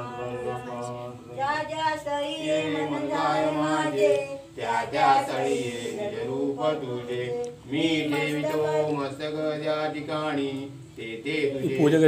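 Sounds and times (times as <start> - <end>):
person singing unaccompanied hymn: 0.0 - 12.0.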